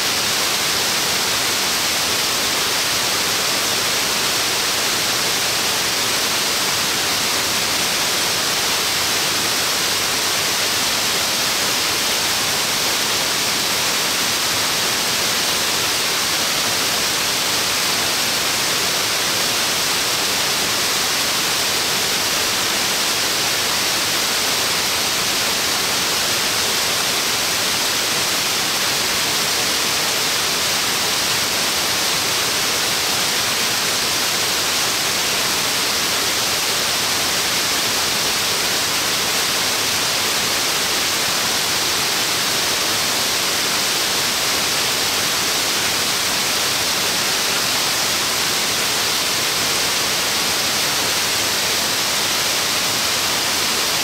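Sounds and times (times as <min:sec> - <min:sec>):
waterfall hiss: 0:00.0 - 0:54.0.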